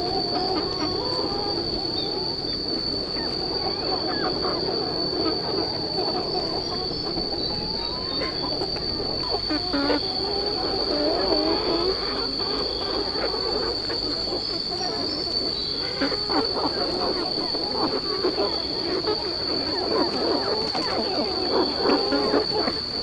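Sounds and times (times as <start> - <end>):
flock of chickens calling: 0.0 - 23.0
high insect drone: 0.0 - 23.0.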